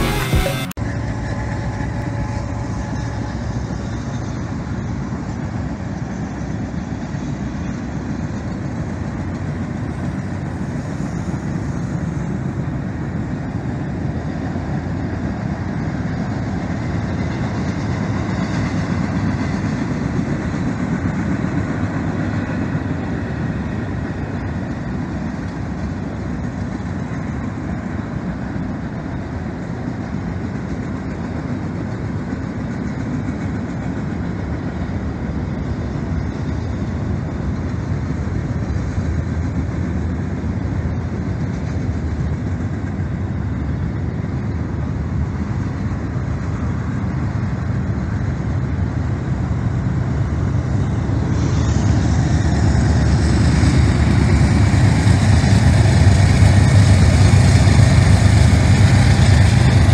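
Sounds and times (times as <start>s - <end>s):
locomotives droning: 0.0s - 25.6s, 35.2s - 59.9s
freight cars rolling on rails: 0.0s - 59.9s.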